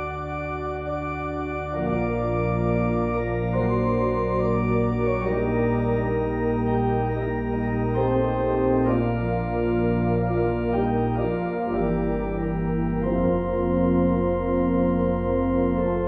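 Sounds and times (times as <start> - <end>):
organ playing chords: 0.0 - 16.0.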